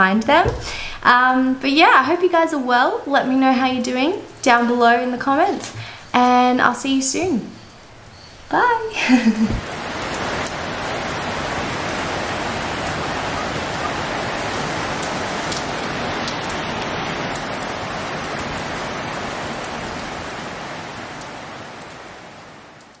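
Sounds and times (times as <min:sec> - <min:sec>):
steady hiss: 0:00.2 - 0:21.6.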